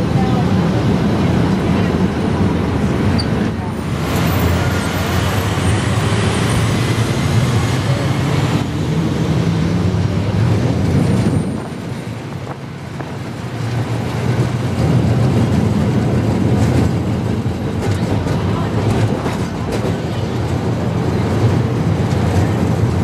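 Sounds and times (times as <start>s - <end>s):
road traffic: 0.0s - 23.0s
tram rumbling along rails: 0.0s - 23.0s.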